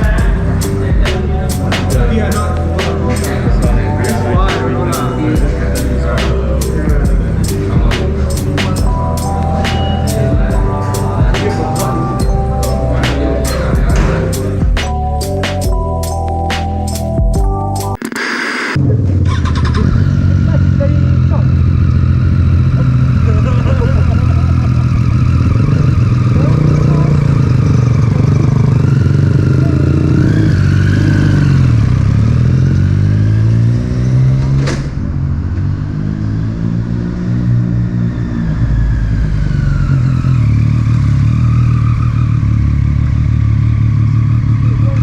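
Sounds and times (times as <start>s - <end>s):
motorcycle engine running: 0.0s - 15.0s, 18.8s - 34.4s, 35.0s - 45.0s.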